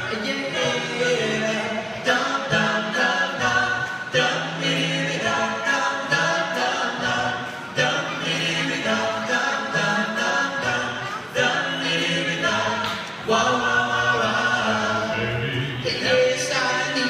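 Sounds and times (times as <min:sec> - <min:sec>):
men singing a cappella harmony: 0:00.0 - 0:17.0.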